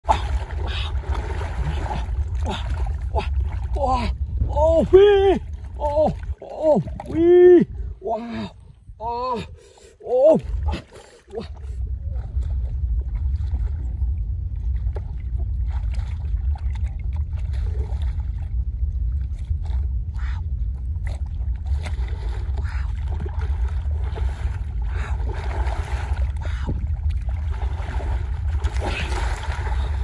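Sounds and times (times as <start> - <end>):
muddy water splashing: 0.0 - 8.7, 9.4 - 30.0
wind rumble on microphone: 0.0 - 30.0.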